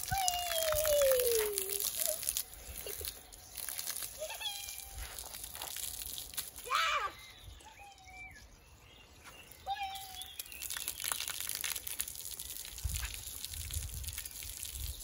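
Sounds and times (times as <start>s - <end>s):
water splashing on paving stones: 0.0s - 7.1s, 9.4s - 15.0s.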